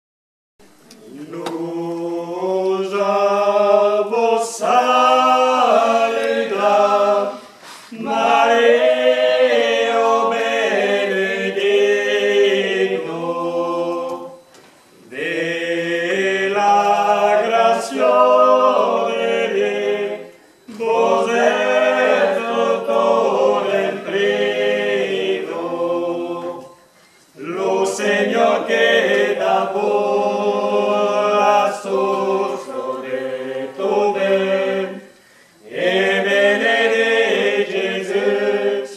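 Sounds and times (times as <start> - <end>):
group singing a cappella: 0.8 - 38.9.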